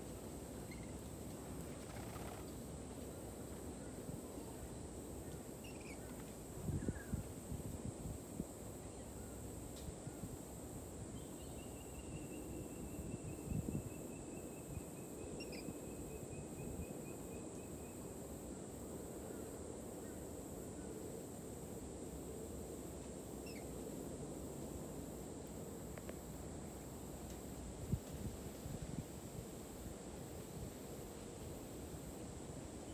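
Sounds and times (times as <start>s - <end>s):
low background noise: 0.0s - 32.9s.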